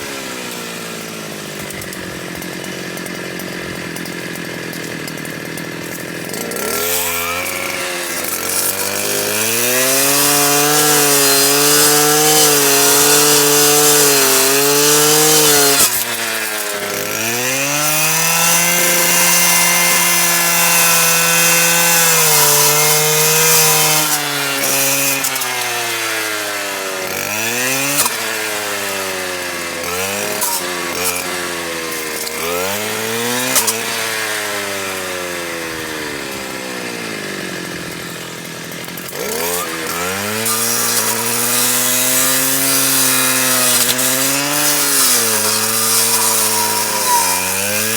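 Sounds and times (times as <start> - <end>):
engine-driven saw cutting wood: 0.0 - 47.9.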